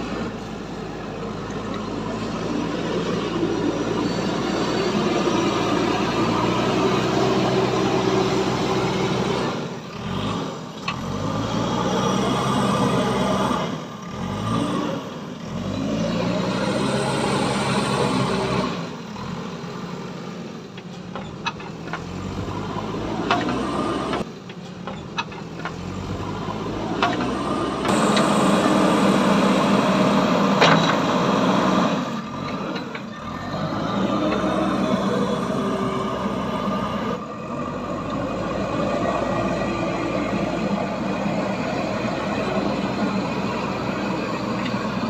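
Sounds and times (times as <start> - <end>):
heavy machine engine revving: 0.0 - 20.4, 21.1 - 45.0.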